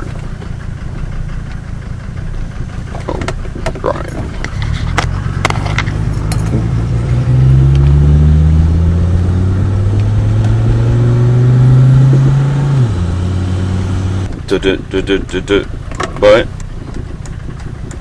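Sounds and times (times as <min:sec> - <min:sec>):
diesel car engine pulling away: 0:00.0 - 0:18.0.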